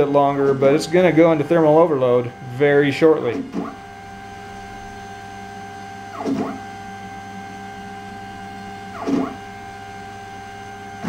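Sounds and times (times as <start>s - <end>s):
stepper motor whine: 0.0s - 11.0s.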